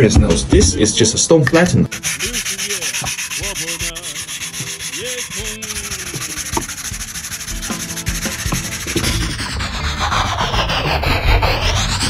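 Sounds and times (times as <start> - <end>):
plate grinding on whetstone: 1.9 - 12.0.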